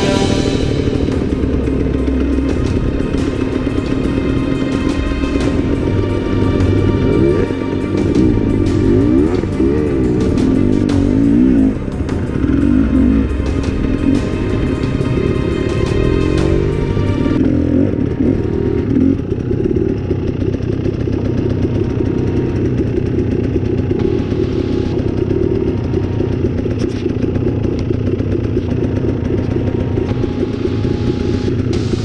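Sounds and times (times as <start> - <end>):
dirt bike engines idling: 0.0 - 32.0.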